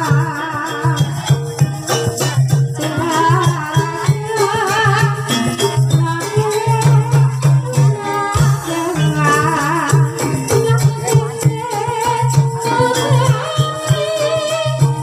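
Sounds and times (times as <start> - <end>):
gamelan music: 0.0 - 15.0.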